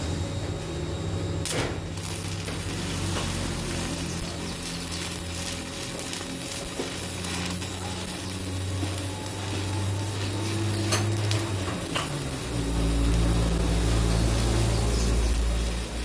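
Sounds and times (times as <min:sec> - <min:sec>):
steady low hum: 0:00.0 - 0:16.0
welding arc sizzling and crackling: 0:00.0 - 0:16.0.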